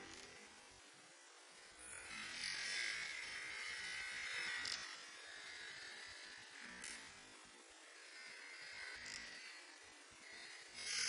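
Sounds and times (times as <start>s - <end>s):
slowed buzzing hiss: 0.0s - 11.0s.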